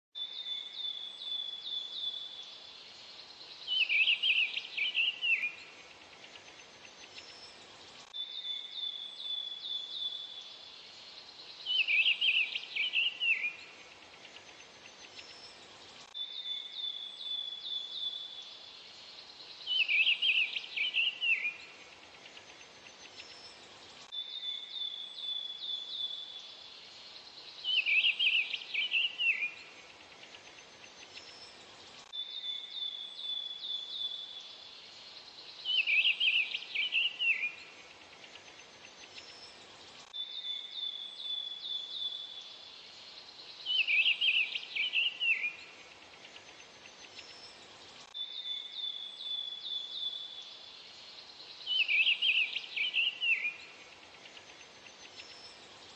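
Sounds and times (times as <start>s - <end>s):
songbird singing: 0.2s - 55.9s.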